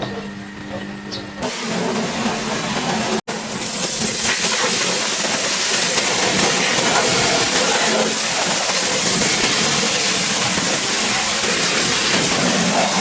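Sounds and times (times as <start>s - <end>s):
pressure washer spray hissing: 1.4s - 13.0s.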